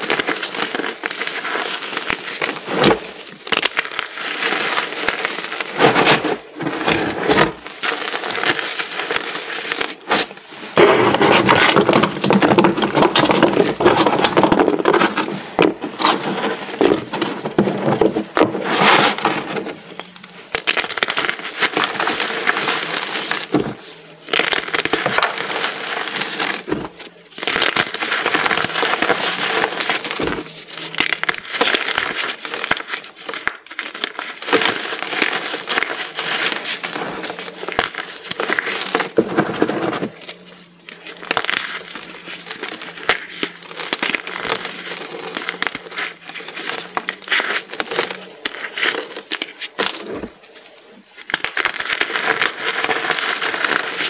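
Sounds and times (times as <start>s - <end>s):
chalk crunching: 0.0s - 54.0s.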